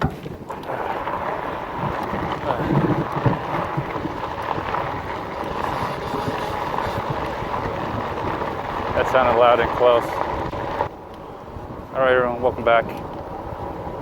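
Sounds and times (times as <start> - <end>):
bike tyre noise: 0.0 - 14.0
wind buffeting microphone: 0.0 - 14.0.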